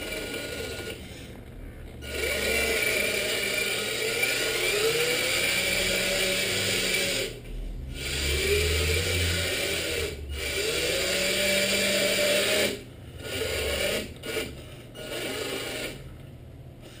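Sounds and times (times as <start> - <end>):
electric motor and gears whining: 0.0 - 16.2.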